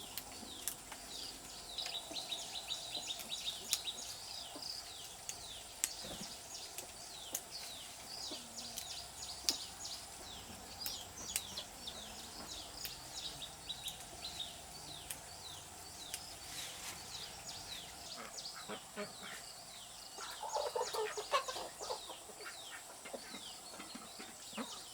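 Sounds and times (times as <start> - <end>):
birds chirping: 0.0 - 24.9
steady background hiss: 0.0 - 24.9.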